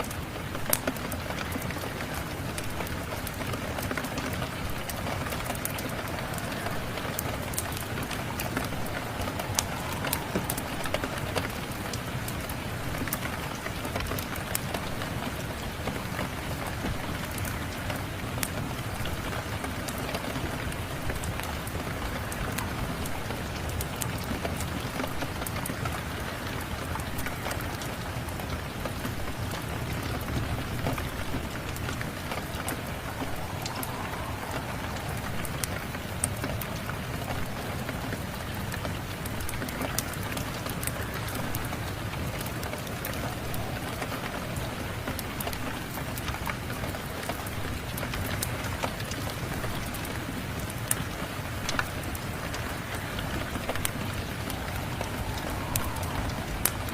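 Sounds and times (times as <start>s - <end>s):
steady rain: 0.0s - 56.9s
wood fire crackling and popping: 0.1s - 17.8s, 18.4s - 56.9s.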